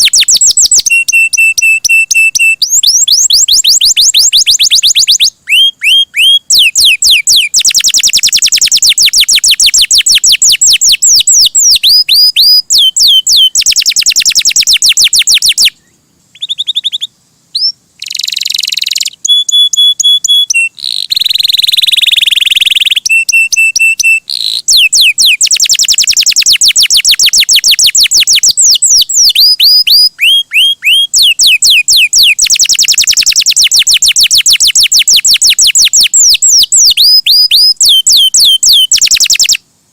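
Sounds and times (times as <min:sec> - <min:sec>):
canary singing trills: 0:00.0 - 0:39.6.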